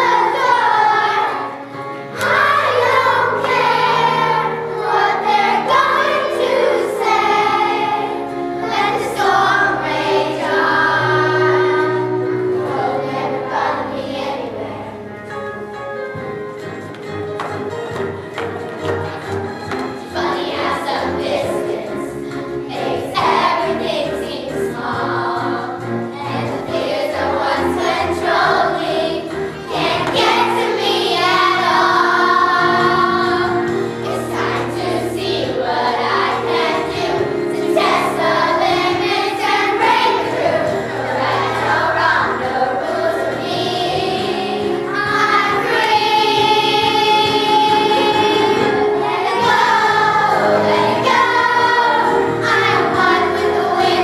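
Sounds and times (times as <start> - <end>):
children's choir singing: 0.0 - 16.4, 17.4 - 54.0
instrumental accompaniment: 0.0 - 54.0.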